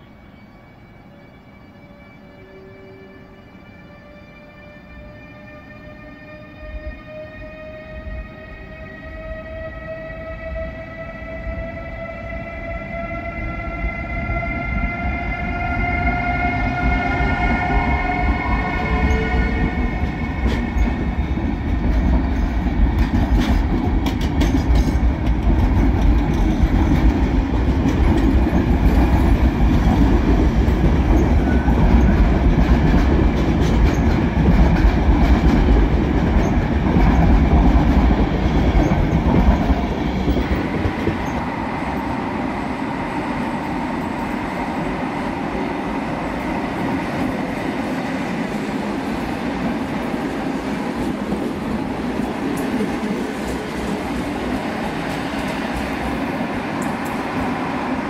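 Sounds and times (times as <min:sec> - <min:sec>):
electric locomotive whine: 0:00.0 - 0:58.0
train coaches rumbling past: 0:00.0 - 0:58.0.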